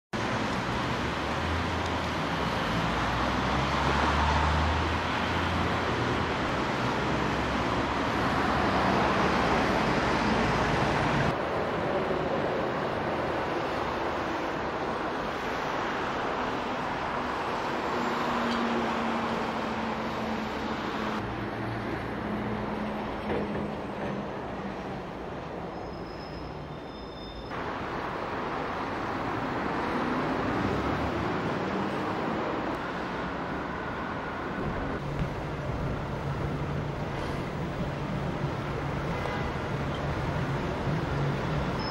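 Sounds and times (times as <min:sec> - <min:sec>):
hum of engines and tyres: 0:00.1 - 0:41.9
cars passing: 0:00.2 - 0:26.9, 0:27.5 - 0:41.9.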